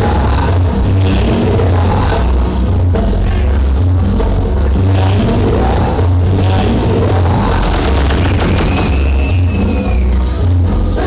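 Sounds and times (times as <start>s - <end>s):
heavy repeating bass beat: 0.0s - 11.0s
loud dance music: 0.0s - 11.0s.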